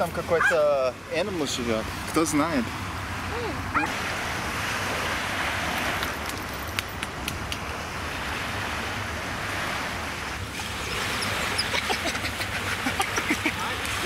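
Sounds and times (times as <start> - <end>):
waves washing on sand: 0.0 - 14.0.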